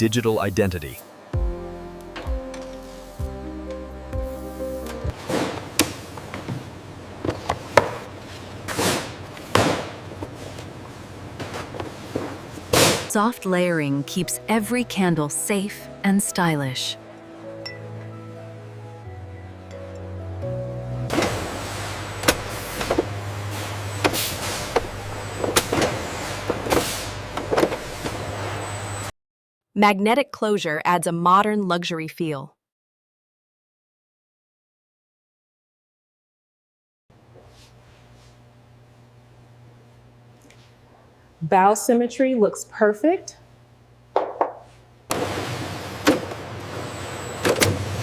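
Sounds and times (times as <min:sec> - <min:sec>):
low machine hum: 0:00.0 - 0:29.1, 0:37.2 - 0:48.0.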